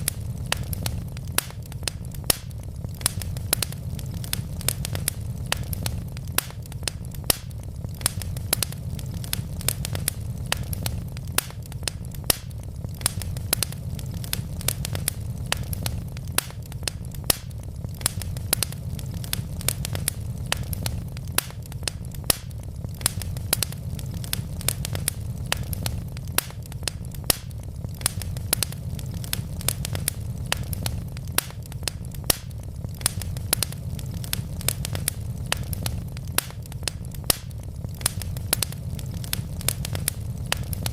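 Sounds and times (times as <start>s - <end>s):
fire rumbling: 0.0s - 40.9s
wood fire crackling and popping: 0.0s - 40.9s.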